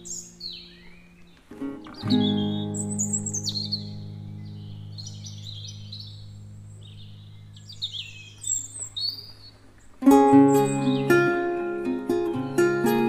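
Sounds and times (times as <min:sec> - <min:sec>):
low held music chord: 0:00.0 - 0:08.4, 0:10.1 - 0:13.0
plucked-string music: 0:00.0 - 0:08.8, 0:10.0 - 0:13.0
birds chirping: 0:00.0 - 0:13.0.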